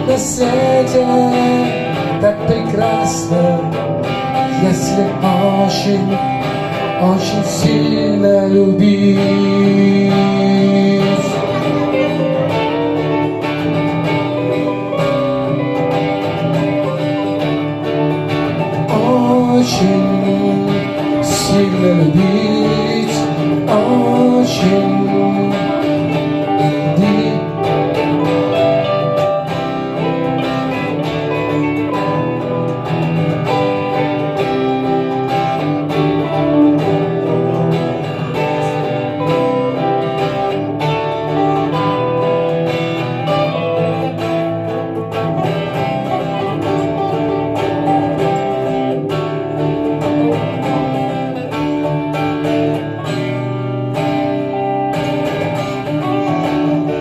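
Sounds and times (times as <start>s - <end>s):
strummed guitar chords: 0.0s - 57.0s.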